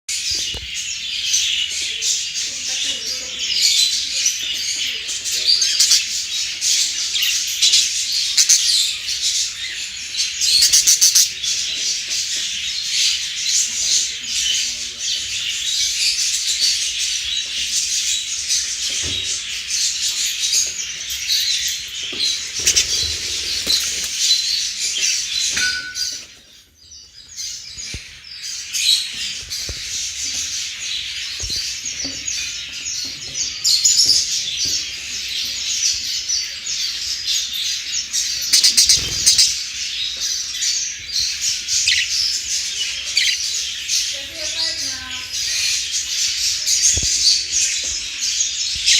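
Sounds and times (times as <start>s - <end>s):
budgerigars chirping and chattering: 0.1s - 48.9s.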